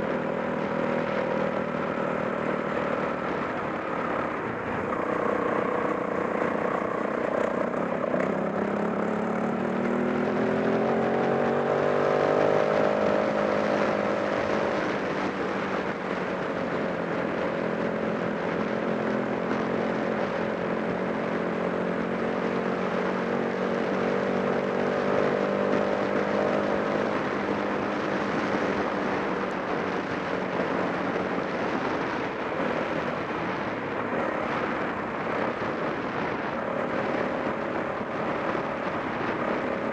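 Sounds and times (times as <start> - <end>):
off-road motorcycle engine revving: 0.0 - 16.0, 16.6 - 39.8.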